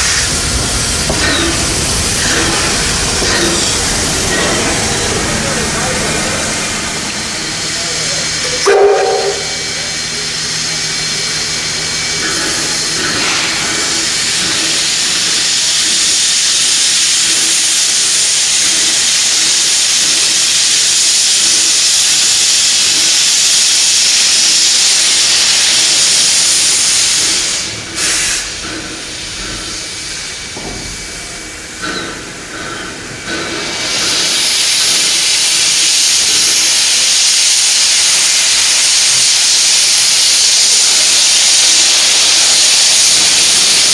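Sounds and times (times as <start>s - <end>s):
steam locomotive venting steam: 0.0s - 43.9s.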